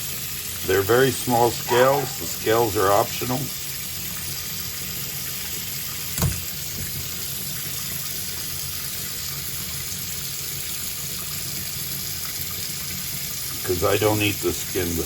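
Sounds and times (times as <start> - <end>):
tap water running into a sink: 0.0 - 15.0.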